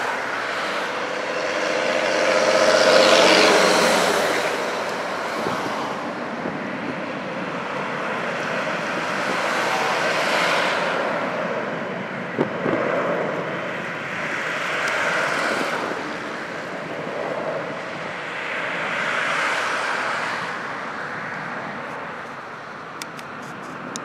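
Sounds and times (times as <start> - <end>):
distant jet airliner: 0.0 - 24.0
highway traffic passing: 0.0 - 24.0.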